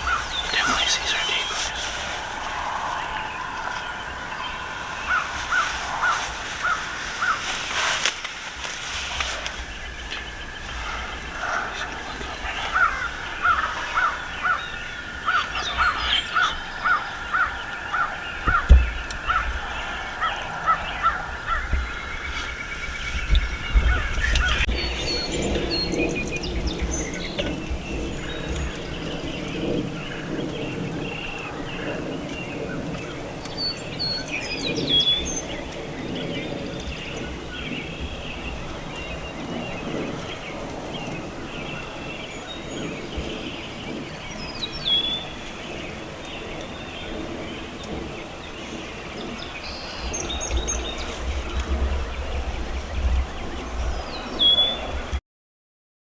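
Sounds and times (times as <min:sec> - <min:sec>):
songbirds calling and singing: 0:00.0 - 0:55.2
wind rumble on microphone: 0:00.0 - 0:55.2.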